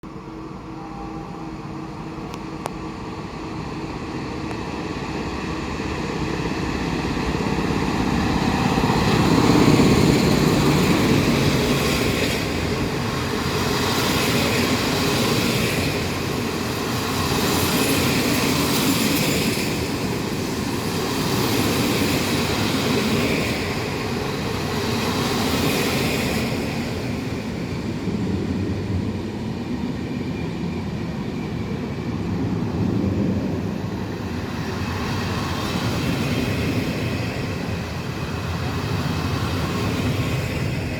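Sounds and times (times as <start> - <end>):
train wheel and rail noise: 0.0 - 40.9.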